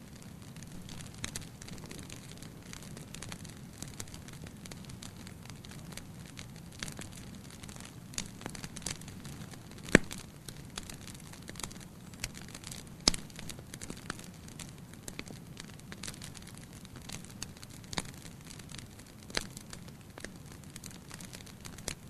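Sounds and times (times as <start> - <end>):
wood fire crackling: 0.0 - 22.0
sharp pops of fire: 0.1 - 22.0.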